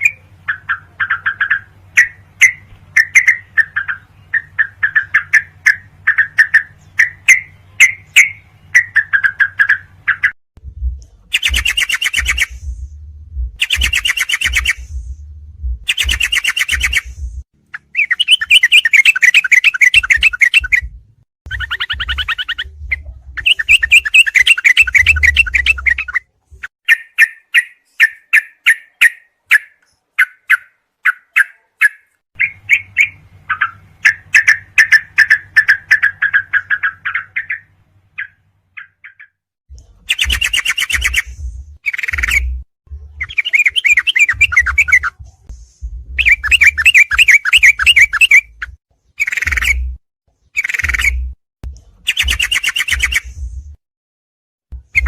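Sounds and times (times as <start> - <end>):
bird chirps and trills: 0.0 - 12.8, 13.6 - 15.0, 15.8 - 39.4, 40.0 - 45.2, 46.2 - 51.4, 52.1 - 53.5, 54.8 - 55.0.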